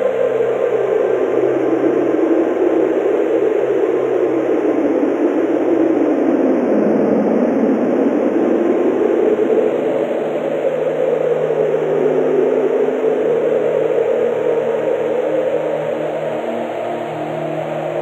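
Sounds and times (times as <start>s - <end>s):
strong wind through forest: 0.0s - 18.0s.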